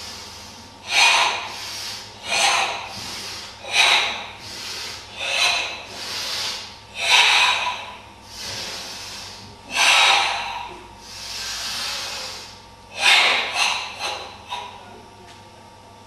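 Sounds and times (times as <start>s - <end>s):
loud forced breathing: 0.0s - 14.9s.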